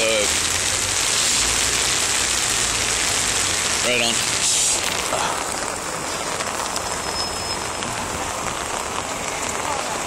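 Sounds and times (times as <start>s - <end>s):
rain and hail on plastic tarps: 0.0s - 10.0s.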